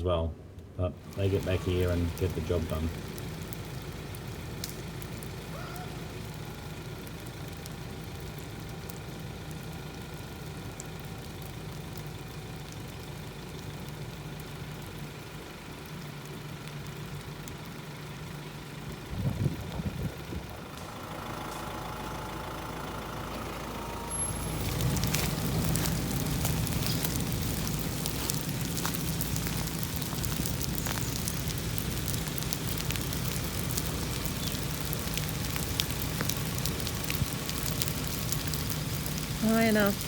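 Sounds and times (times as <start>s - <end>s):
vehicle engine running: 0.9s - 40.0s
rain pattering: 1.0s - 40.0s.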